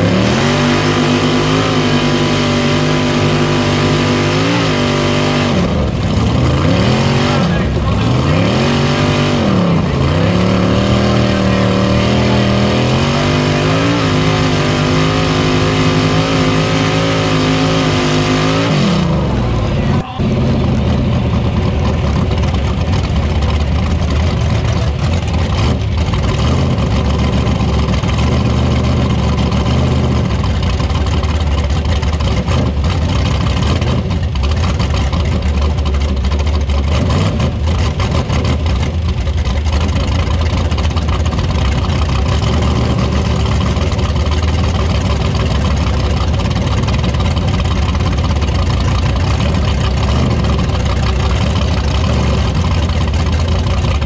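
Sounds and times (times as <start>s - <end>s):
truck engine running loudly: 0.0s - 54.0s.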